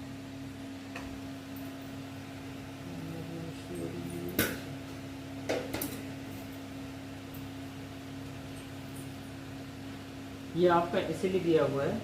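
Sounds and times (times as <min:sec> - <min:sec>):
washing machine low hum: 0:00.0 - 0:12.0.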